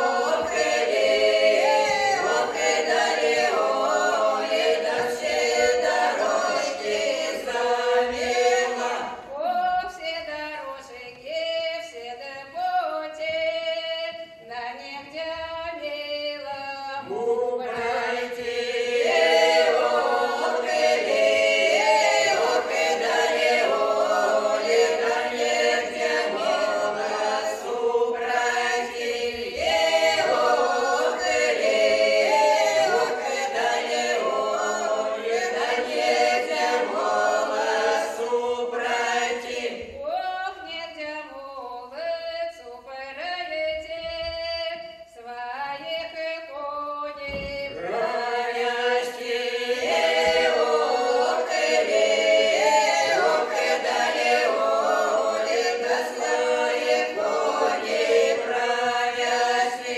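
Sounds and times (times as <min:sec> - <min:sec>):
group singing a cappella: 0:00.0 - 0:59.9.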